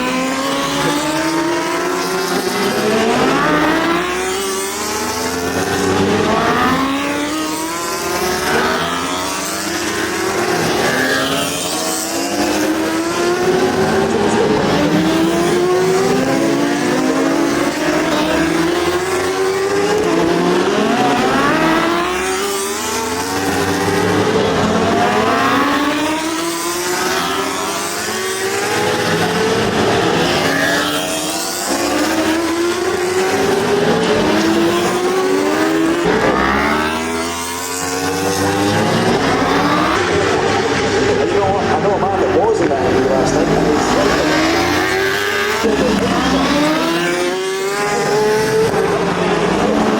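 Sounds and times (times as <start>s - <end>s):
motorcycle engines accelerating: 0.0s - 49.9s.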